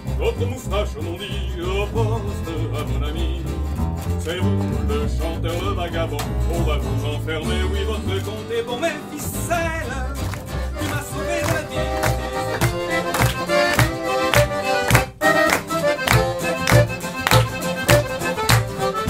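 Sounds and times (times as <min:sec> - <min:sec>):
acoustic guitar melody: 0:00.0 - 0:19.0
double bass walking low notes: 0:00.0 - 0:19.0.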